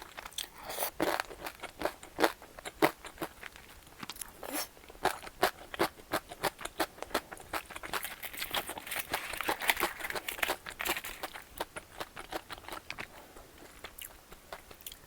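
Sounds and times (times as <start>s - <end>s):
person chewing with mouth clicks: 0.0s - 15.0s.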